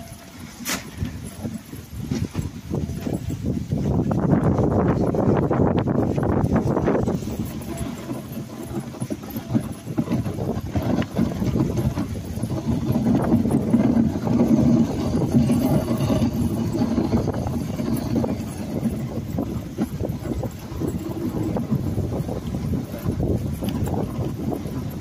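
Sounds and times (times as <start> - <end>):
sled rattling knocks: 0.0 - 25.0
sled runners scraping snow: 0.0 - 25.0.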